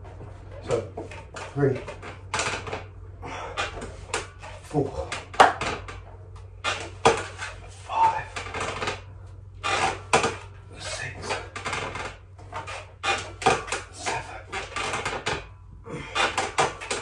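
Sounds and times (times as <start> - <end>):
steady low hum: 0.0 - 17.0
weight bench clattering and creaking: 0.0 - 17.0.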